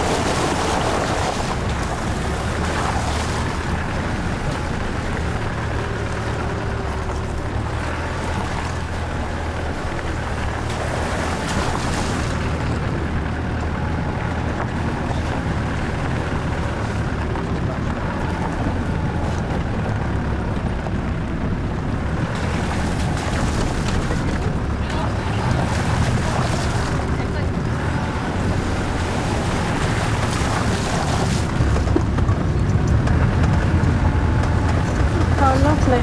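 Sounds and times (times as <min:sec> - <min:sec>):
car engine and tyre drone: 0:00.0 - 0:36.0.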